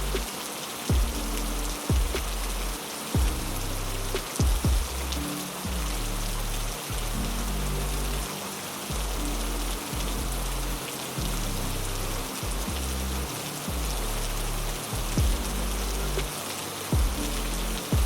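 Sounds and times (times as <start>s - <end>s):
heavy rain hissing: 0.0s - 18.0s
low held music notes: 0.0s - 18.0s.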